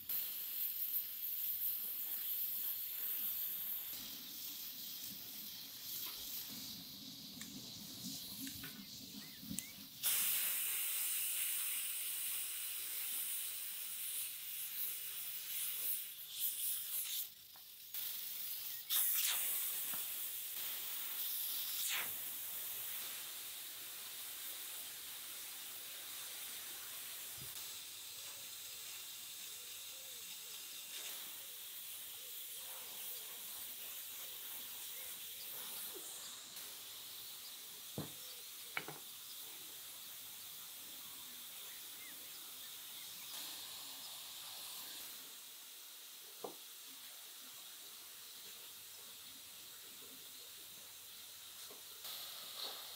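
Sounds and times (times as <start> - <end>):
steam hissing from valve: 0.0 - 52.9.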